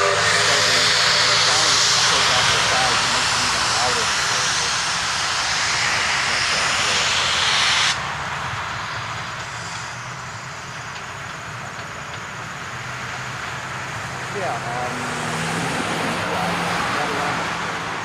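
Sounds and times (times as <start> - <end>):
steam locomotive hissing steam: 0.0 - 18.0
train low rumble: 0.0 - 18.0.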